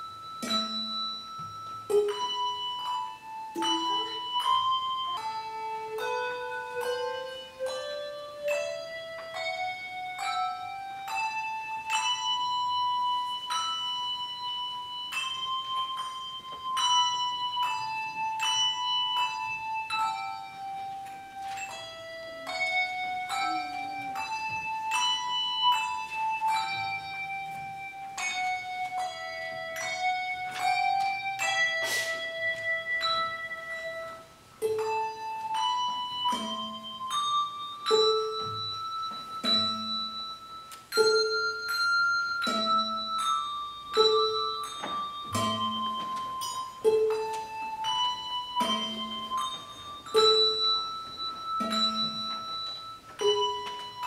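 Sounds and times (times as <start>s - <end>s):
handbells playing slow melody: 0.0s - 54.0s
low handbell note repeating: 0.0s - 54.0s.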